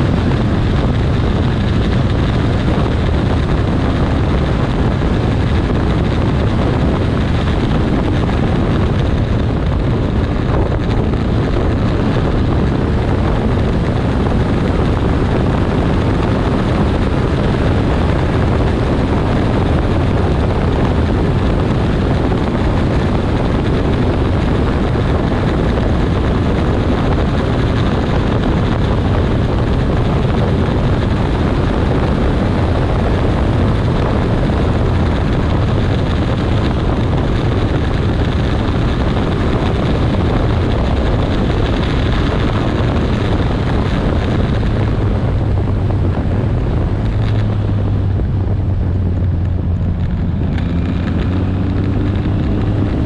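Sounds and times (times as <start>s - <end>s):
motorcycle engine running: 0.0s - 53.0s
tyre noise on road: 0.0s - 53.0s
wind rushing over microphone: 0.0s - 53.0s.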